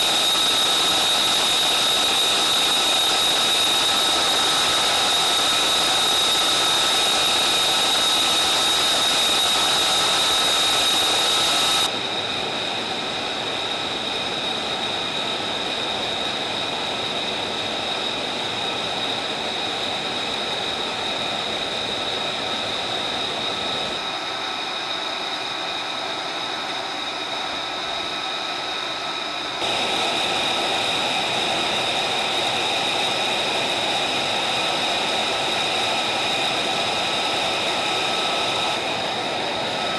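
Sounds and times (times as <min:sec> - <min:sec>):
jet engine idling: 0:00.0 - 0:39.9.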